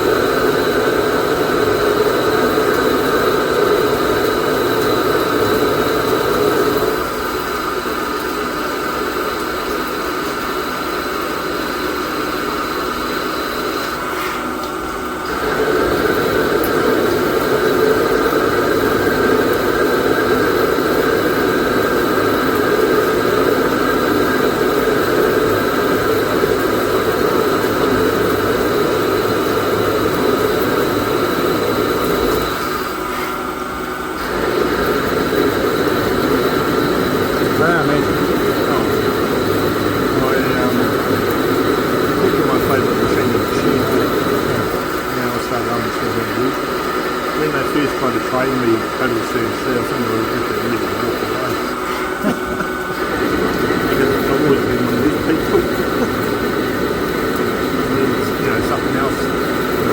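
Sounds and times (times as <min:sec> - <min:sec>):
lathe machine hum with whining: 0:00.0 - 0:59.9.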